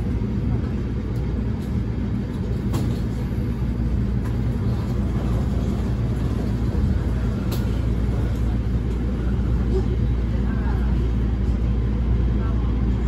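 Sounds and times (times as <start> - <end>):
train cabin rumble: 0.0 - 13.0.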